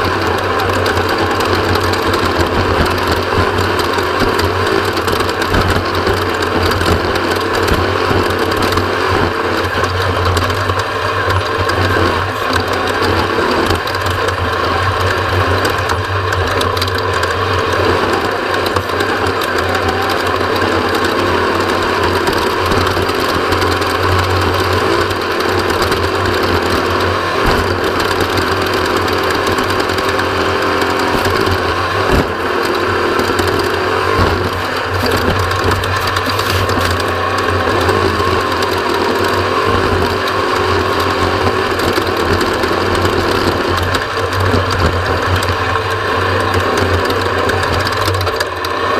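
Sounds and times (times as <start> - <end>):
race vehicle engine drone: 0.0 - 48.9
road and drivetrain noise: 0.0 - 48.9.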